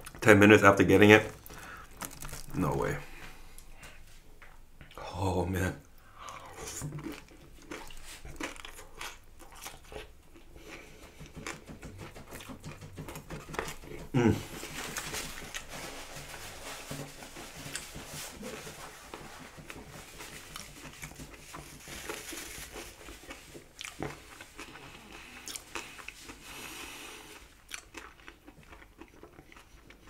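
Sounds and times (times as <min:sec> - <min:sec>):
person chewing crispy fries: 0:00.0 - 0:00.2, 0:01.2 - 0:03.7, 0:06.0 - 0:30.0.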